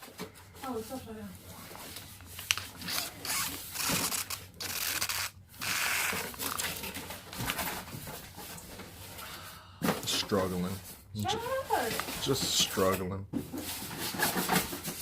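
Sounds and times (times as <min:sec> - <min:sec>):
packaging rustling and scraping: 0:00.0 - 0:15.0.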